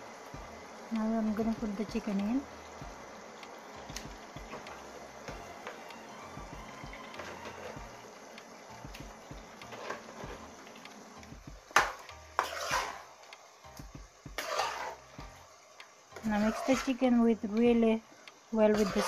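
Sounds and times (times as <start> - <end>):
meat hissing in pot: 0.0 - 13.6, 14.2 - 19.0.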